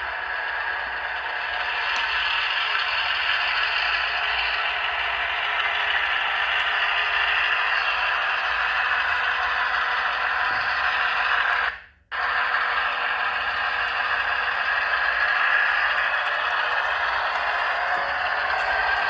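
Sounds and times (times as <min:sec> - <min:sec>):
model locomotive diesel engine sound: 0:00.0 - 0:19.0.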